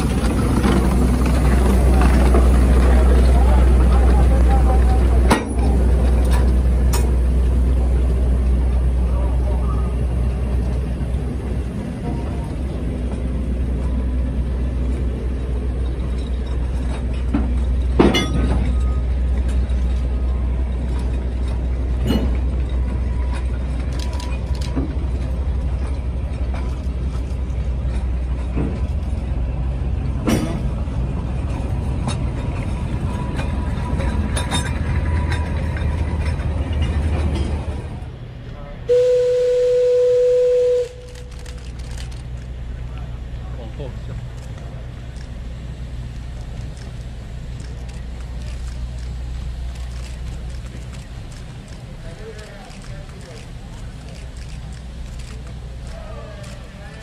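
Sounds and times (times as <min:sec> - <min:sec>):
train rolling rumble: 0:00.0 - 0:57.0.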